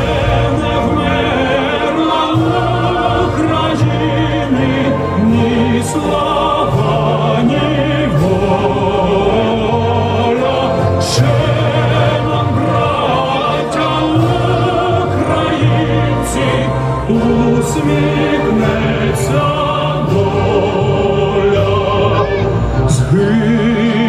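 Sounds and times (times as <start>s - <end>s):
person singing: 0.0s - 24.0s
sustained backing music with bass: 0.0s - 24.0s.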